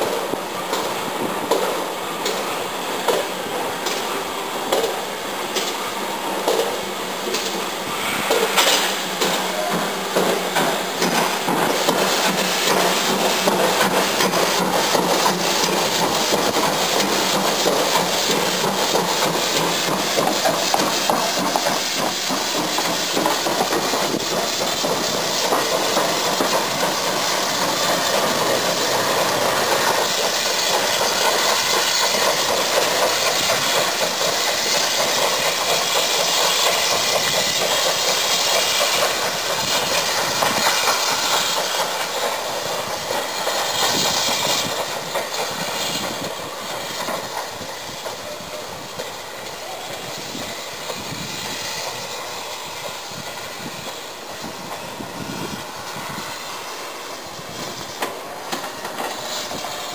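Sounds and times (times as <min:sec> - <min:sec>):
steam hissing: 0:00.0 - 0:59.9
steam locomotive running: 0:00.0 - 0:59.9.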